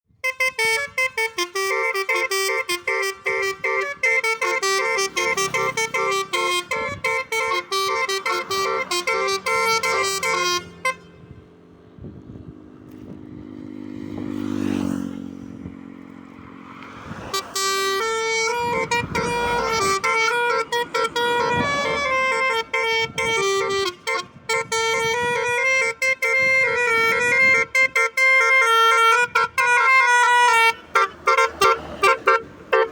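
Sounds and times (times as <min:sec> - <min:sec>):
multi-tone bus horn melody: 0:00.1 - 0:13.2, 0:13.9 - 0:32.9
vehicle engine rumble: 0:00.2 - 0:32.9.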